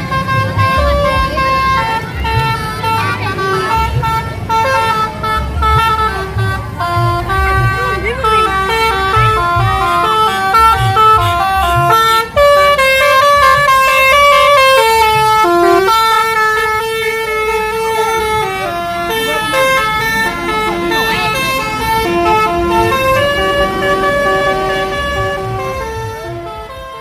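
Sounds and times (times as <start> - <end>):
bus horn playing a tune: 0.0 - 27.0
low engine rumble: 0.0 - 27.0.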